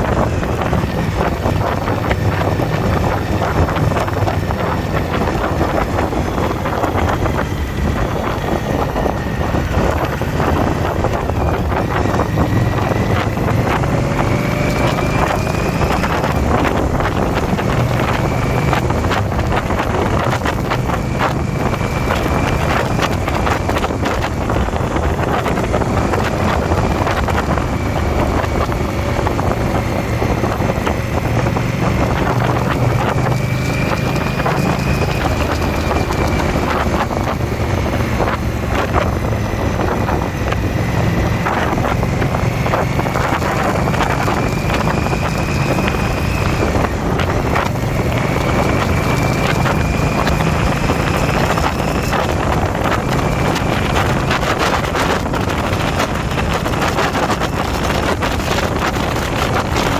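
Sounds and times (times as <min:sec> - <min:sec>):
motorcycle engine drone: 0:00.0 - 0:59.9
wind noise on microphone: 0:00.0 - 0:59.9.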